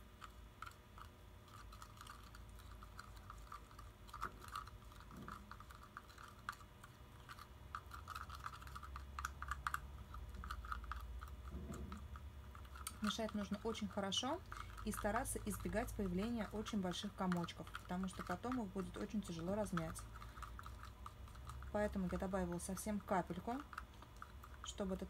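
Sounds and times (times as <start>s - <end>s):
slime stirred in plastic jar: 0.0s - 25.0s.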